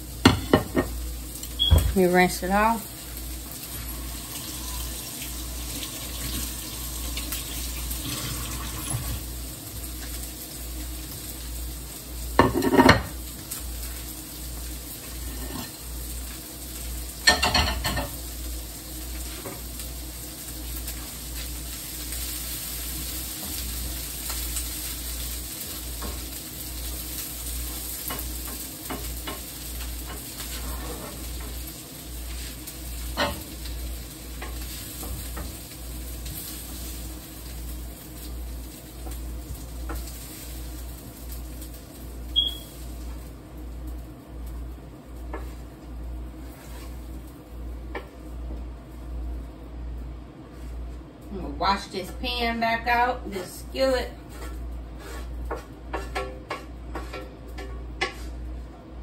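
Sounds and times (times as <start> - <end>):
chicken sizzling in a pan: 0.0 - 59.0.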